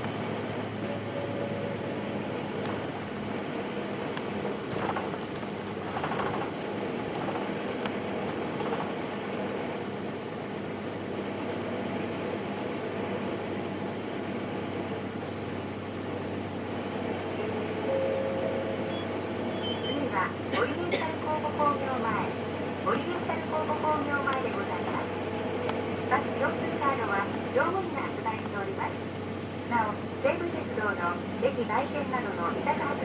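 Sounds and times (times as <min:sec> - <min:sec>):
diesel bus engine running: 0:00.0 - 0:33.0.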